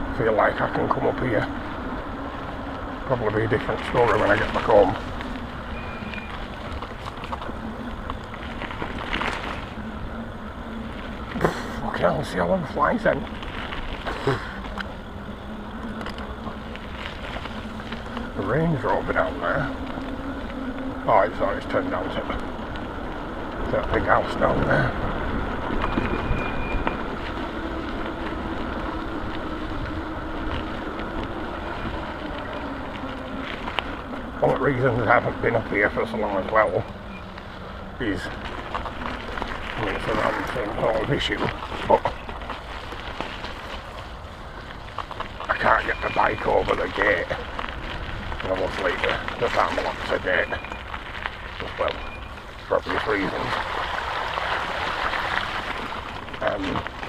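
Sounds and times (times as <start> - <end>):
faint motor hum: 0.0 - 52.8
bike rumbling over rough ground: 0.0 - 57.0
engine drone: 0.0 - 57.0.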